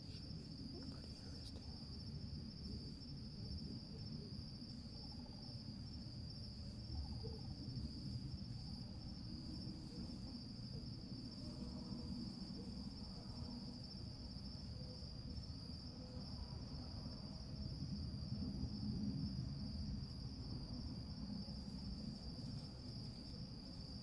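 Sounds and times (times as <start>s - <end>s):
insect chorus trilling: 0.0s - 24.0s
low background rumble: 0.0s - 24.0s.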